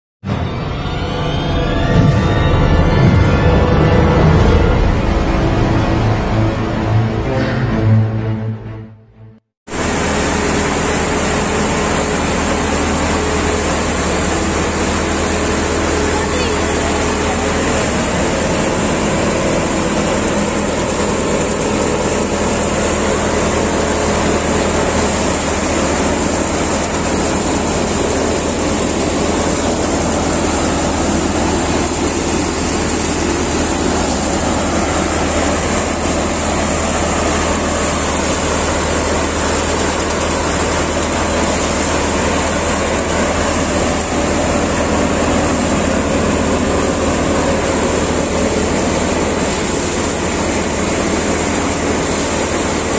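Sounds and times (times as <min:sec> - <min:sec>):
tractor engine hum: 0:00.2 - 0:07.3, 0:09.7 - 0:52.9
thresher mechanical drone: 0:00.2 - 0:08.8, 0:09.7 - 0:52.9.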